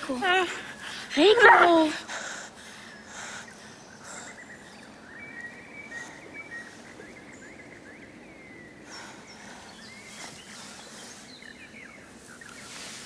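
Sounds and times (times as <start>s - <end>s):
small birds chirping: 0.0s - 13.0s
soft rush of noise: 0.0s - 13.0s
steady outdoor hiss: 0.0s - 13.0s.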